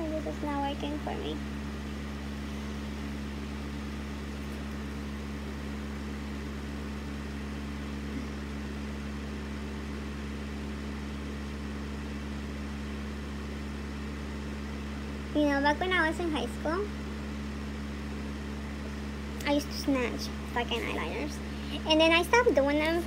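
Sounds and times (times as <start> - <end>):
appliance humming: 0.0 - 23.0.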